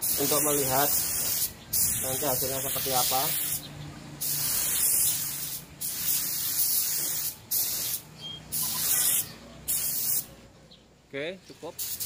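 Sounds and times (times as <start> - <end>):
paint spray gun hissing bursts: 0.0 - 3.6, 4.2 - 10.3.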